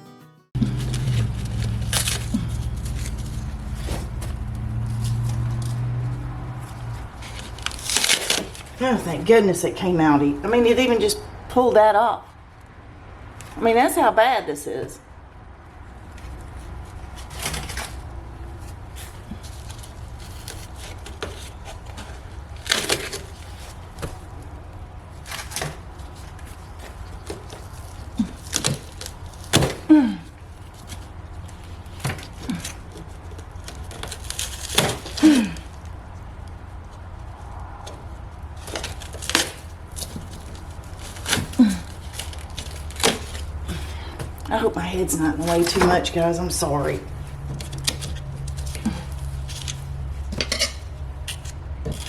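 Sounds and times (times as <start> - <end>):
wood creaking: 0.6 - 9.3, 15.3 - 52.0
steady low hum: 0.6 - 52.0.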